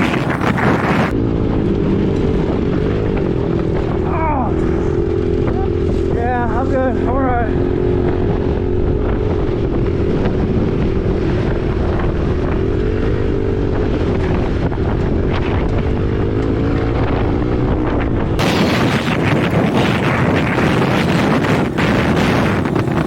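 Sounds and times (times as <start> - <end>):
dirt bike engine running: 0.0 - 23.0
wind buffeting microphone: 0.0 - 23.0.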